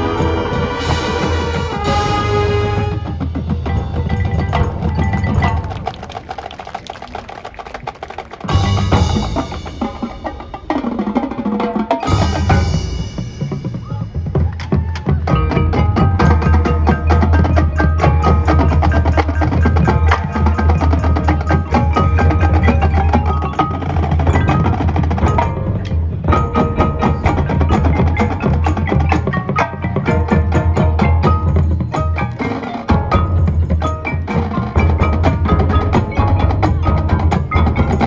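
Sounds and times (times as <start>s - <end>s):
drums: 0.0s - 38.0s
mallet keyboards: 0.0s - 38.0s
marching band playing: 0.0s - 38.0s.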